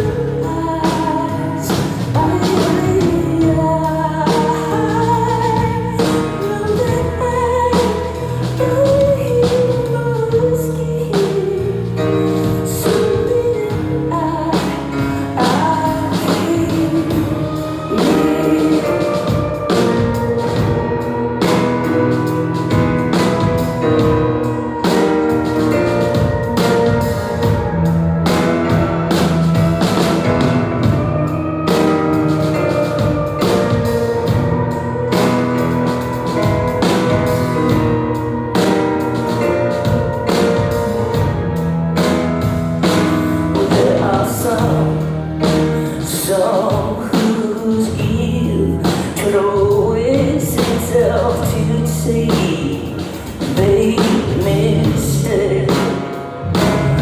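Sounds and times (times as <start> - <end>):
woman singing: 0.0 - 42.2, 42.8 - 57.0
keyboard chords: 0.0 - 57.0.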